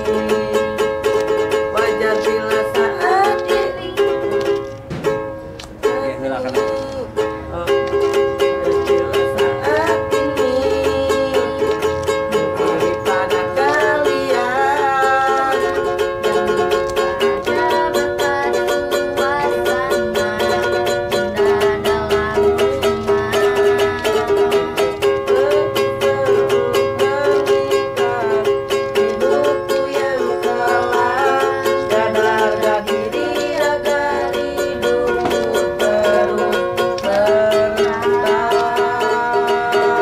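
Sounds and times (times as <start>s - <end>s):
man singing: 0.0s - 4.0s, 5.8s - 40.0s
ukulele strumming chords: 0.0s - 40.0s.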